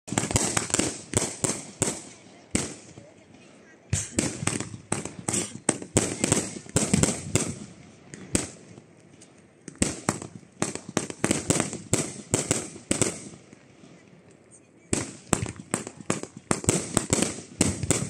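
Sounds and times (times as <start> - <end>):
fireworks bangs: 0.1 - 8.9, 9.6 - 18.0.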